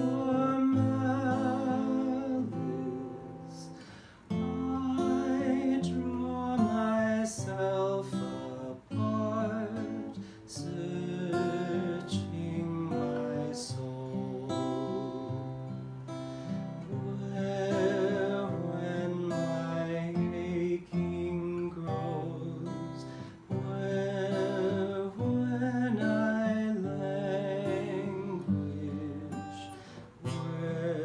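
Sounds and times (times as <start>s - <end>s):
acoustic guitar: 0.0s - 31.0s
man singing a hymn: 0.0s - 31.0s.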